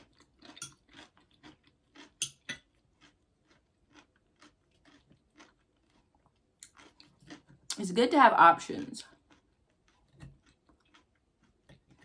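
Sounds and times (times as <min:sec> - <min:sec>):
person chewing food: 0:00.0 - 0:07.8, 0:09.0 - 0:12.0.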